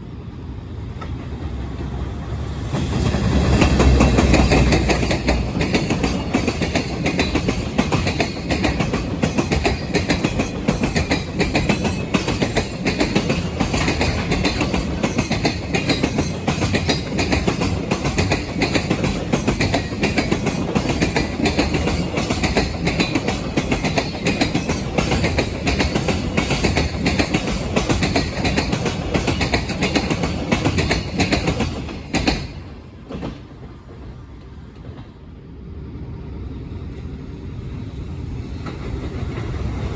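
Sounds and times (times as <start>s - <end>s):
freight train rumble: 0.0s - 39.9s
wheels clacking over rail joints: 1.0s - 34.0s.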